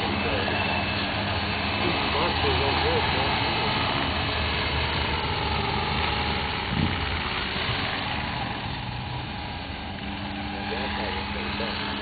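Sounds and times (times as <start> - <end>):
rc helicopter rotor drone: 0.0 - 12.0.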